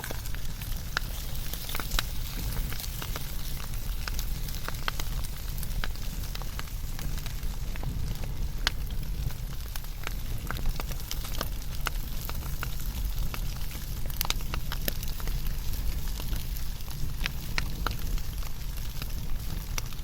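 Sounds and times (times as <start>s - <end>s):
fire crackles and pops: 0.0s - 20.0s
fire flames rumbling: 0.0s - 20.0s.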